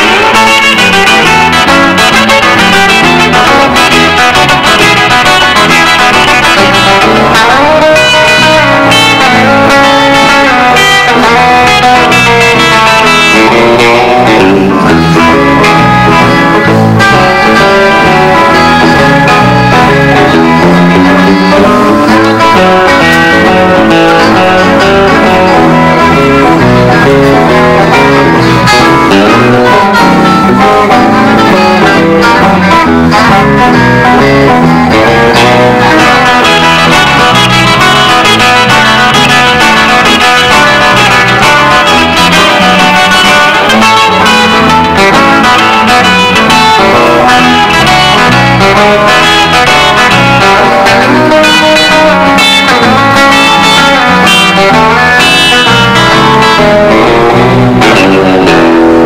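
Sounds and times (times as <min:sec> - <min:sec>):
country band playing: 0:00.0 - 0:59.0.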